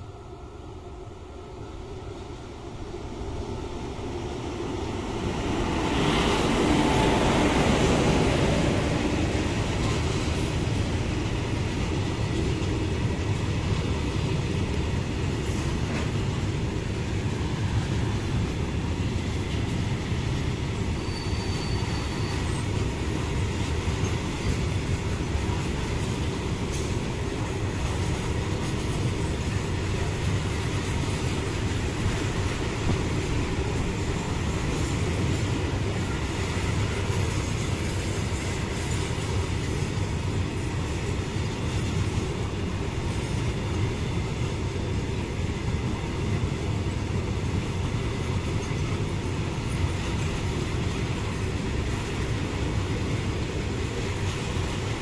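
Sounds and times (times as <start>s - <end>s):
electric locomotive passing: 0.0s - 55.0s.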